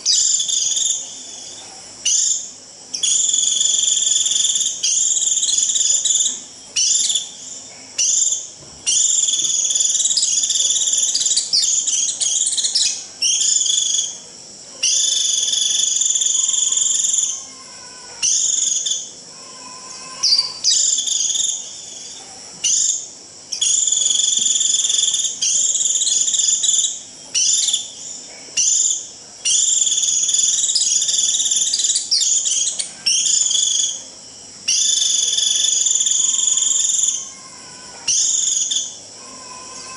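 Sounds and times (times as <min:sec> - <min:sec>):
bird buzzy trilled calls: 0:00.0 - 0:14.2, 0:14.8 - 0:39.9.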